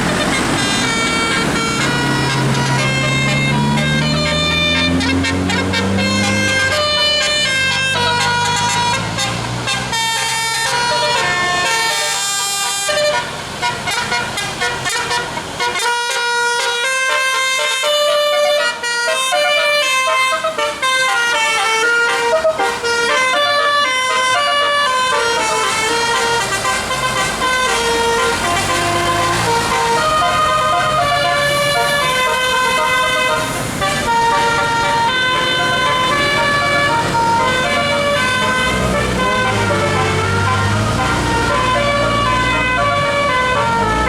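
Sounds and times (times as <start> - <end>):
air-horn trumpets playing a tune: 0.0 - 44.0.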